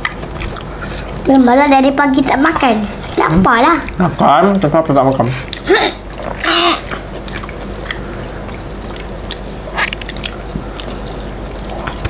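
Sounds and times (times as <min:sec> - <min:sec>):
chewing crispy food: 0:00.0 - 0:01.5, 0:02.4 - 0:12.0.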